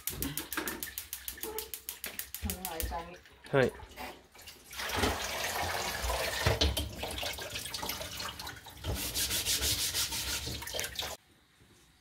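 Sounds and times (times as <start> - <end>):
hands washing under water: 0.0 - 11.2.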